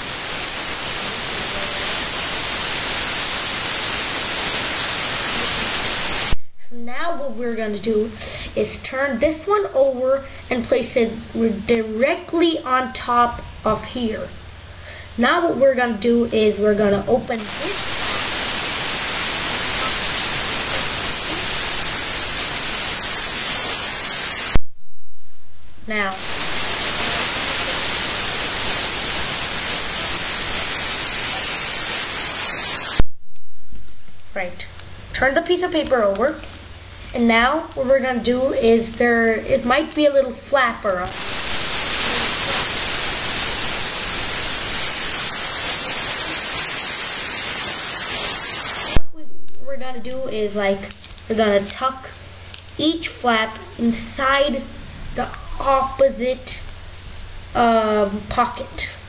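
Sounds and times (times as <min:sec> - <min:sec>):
loud recording static hiss: 0:00.0 - 0:59.0.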